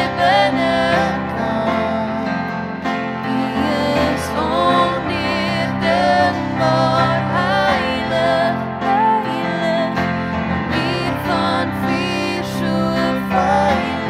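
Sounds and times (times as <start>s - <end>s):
gentle church worship music: 0.0s - 14.0s.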